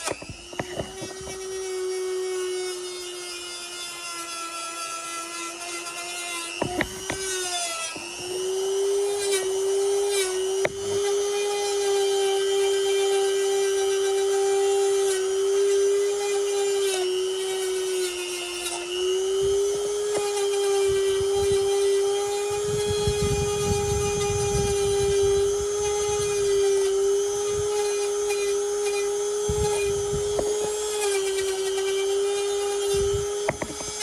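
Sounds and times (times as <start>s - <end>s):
rotary tool grinding metal: 0.0s - 34.0s.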